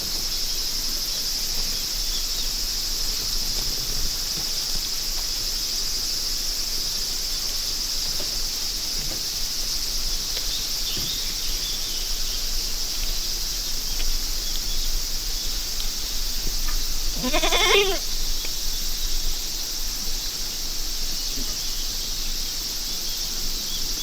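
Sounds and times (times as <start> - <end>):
shrill insect chorus: 0.0 - 24.0.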